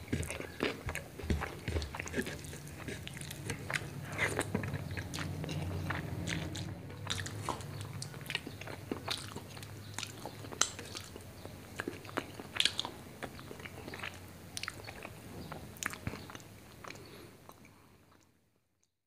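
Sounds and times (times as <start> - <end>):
wet chewing: 0.0 - 18.2.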